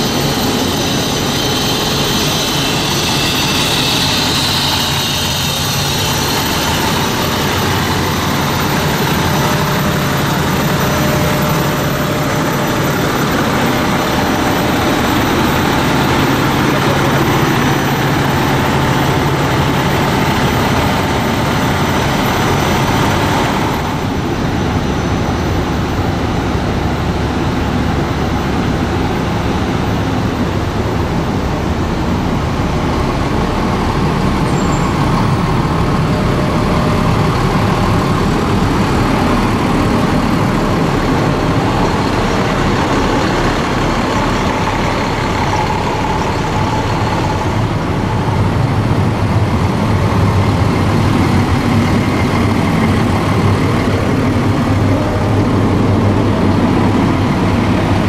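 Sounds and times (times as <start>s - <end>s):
fire truck diesel engines droning: 0.0s - 58.0s.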